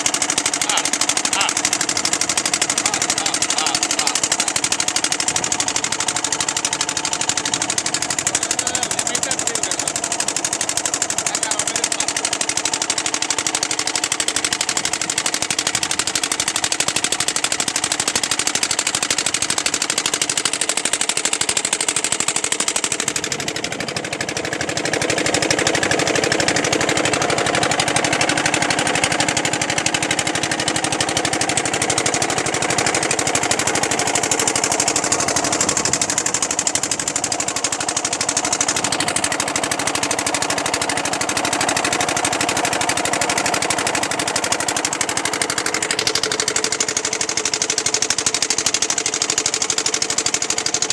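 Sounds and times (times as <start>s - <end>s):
boat engine knocking: 0.0s - 50.9s.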